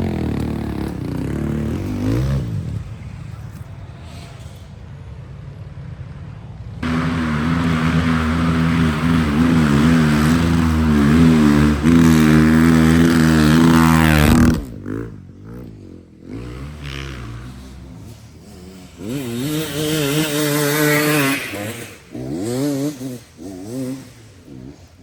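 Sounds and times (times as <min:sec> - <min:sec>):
motocross engine revving: 0:00.0 - 0:03.6, 0:06.8 - 0:25.0
faint engine sound: 0:00.0 - 0:25.0.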